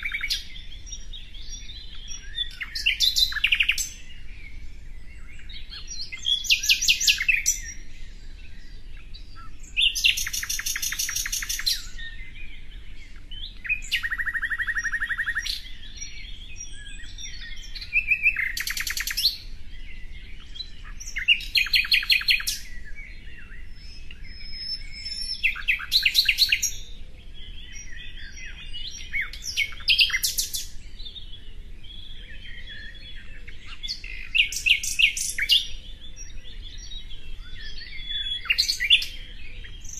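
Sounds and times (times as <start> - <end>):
bird chirps and twitters: 0.0 - 39.9
songbird trilling: 0.0 - 39.9.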